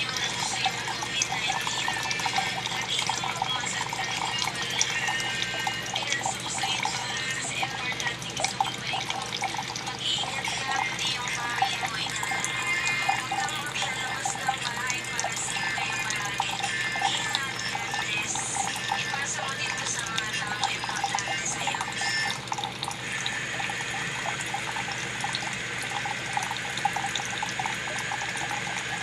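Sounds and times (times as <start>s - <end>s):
water pouring and splashing: 0.0s - 29.0s.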